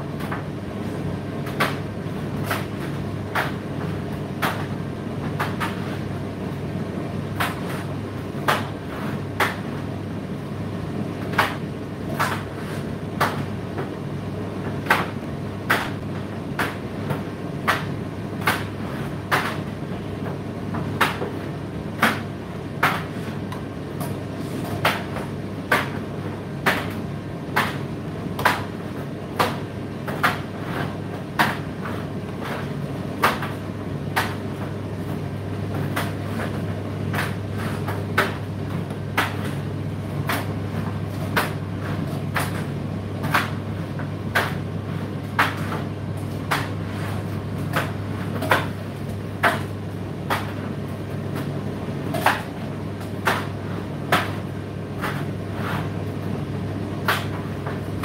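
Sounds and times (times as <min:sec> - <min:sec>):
tumble dryer motor hum: 0:00.0 - 0:58.0.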